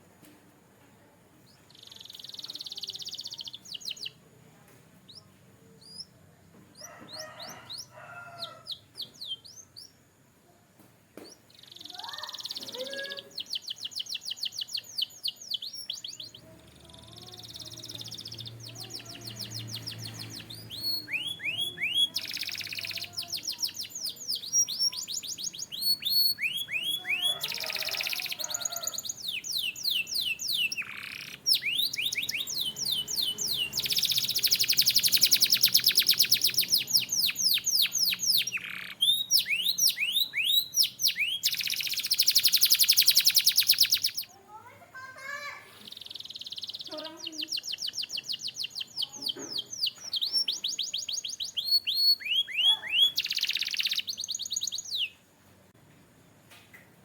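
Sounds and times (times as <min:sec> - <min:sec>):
canary singing trills: 0:01.5 - 0:04.3, 0:05.0 - 0:10.2, 0:11.3 - 0:55.3.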